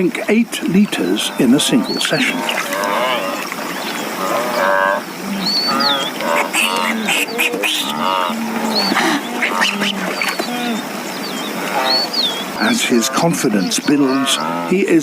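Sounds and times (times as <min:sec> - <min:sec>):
birds chirping: 0:00.0 - 0:15.0
wildebeest lowing calls: 0:00.9 - 0:15.0.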